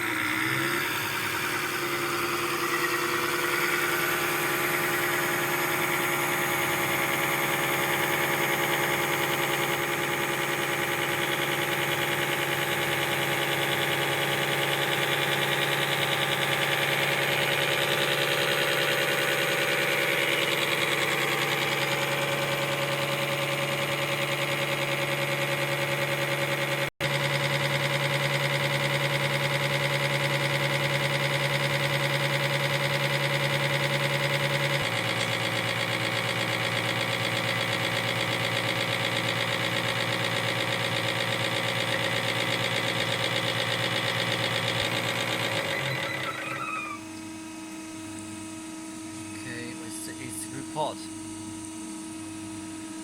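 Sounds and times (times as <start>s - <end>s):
pump test bench running: 0.0s - 53.0s.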